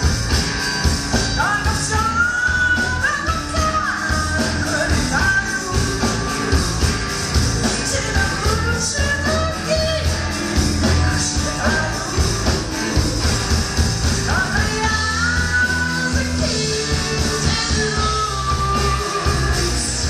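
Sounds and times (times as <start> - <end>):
live rock band playing: 0.0 - 20.0
woman singing: 1.3 - 6.9, 7.6 - 20.0.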